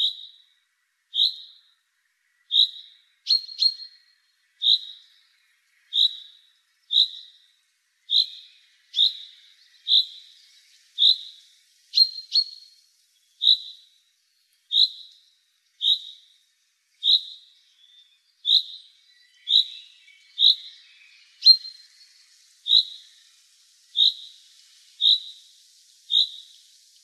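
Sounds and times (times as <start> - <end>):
songbird calling: 0.0 - 27.0.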